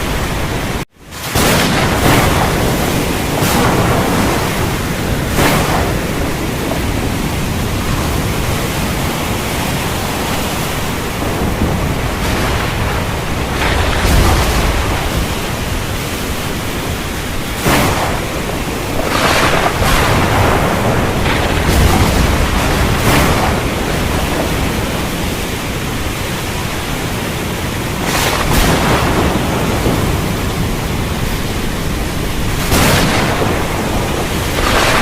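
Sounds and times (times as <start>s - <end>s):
rain and wind rushing: 0.0s - 35.0s
low rumble of thunder: 1.4s - 27.1s, 27.9s - 35.0s.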